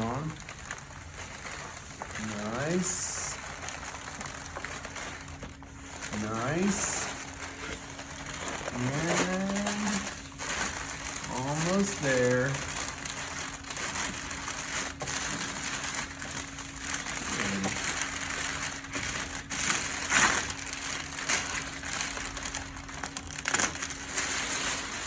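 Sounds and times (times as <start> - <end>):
backing film peeling and crinkling: 0.0 - 25.0.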